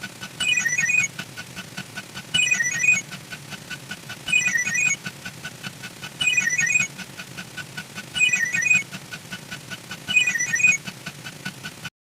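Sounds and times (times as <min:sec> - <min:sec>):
steady ticking: 0:00.0 - 0:11.9.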